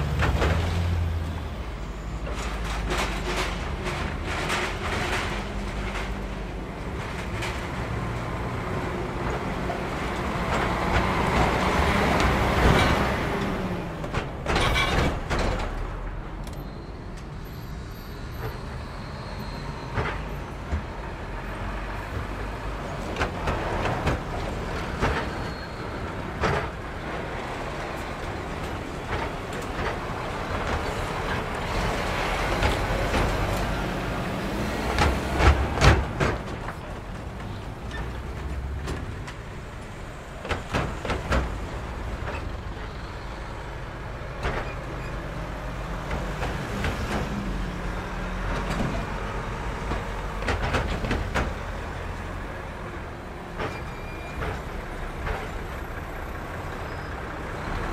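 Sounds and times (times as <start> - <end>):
wheels clattering over rails: 0.0 - 16.4, 19.5 - 57.9
vehicle engines running: 0.0 - 16.6, 17.2 - 57.9.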